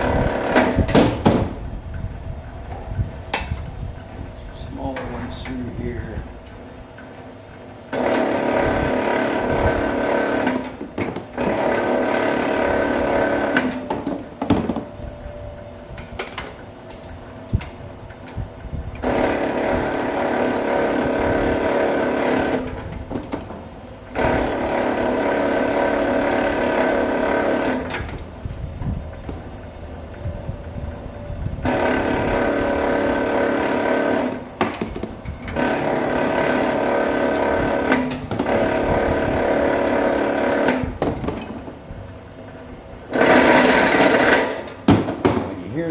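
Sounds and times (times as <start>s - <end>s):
wire-stripping machine whirring: 0.0s - 45.9s.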